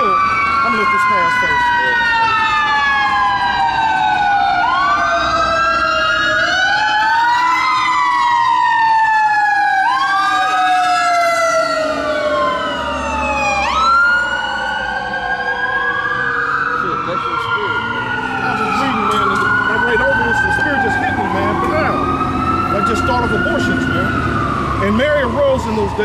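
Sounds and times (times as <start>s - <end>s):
emergency vehicle sirens wailing: 0.0s - 26.0s
siren whoop: 0.0s - 26.0s.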